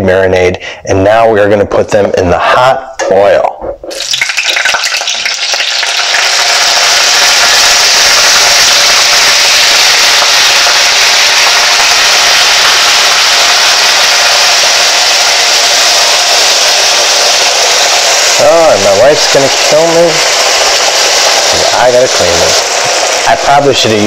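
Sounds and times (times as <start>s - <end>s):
food sizzling in hot oil: 3.9s - 24.0s.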